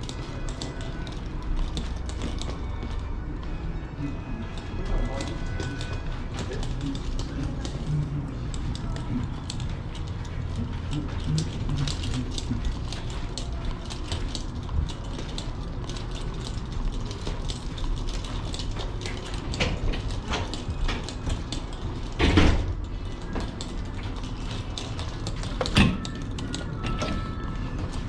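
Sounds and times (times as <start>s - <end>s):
mechanical clicking and rattling: 0.0s - 28.0s.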